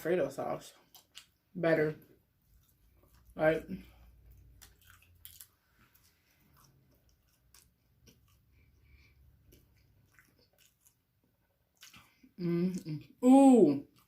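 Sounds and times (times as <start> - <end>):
person chewing: 0.8 - 1.5, 2.2 - 13.2.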